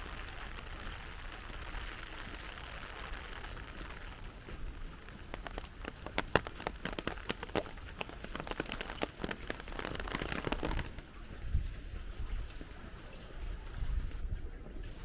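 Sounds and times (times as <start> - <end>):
heavy rain: 0.0 - 13.8.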